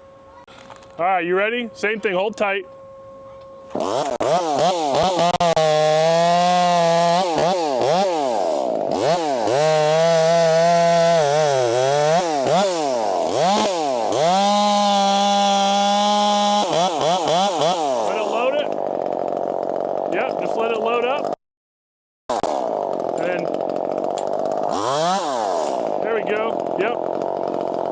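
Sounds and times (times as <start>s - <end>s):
chainsaw cutting wood: 3.7s - 21.4s, 22.3s - 27.9s.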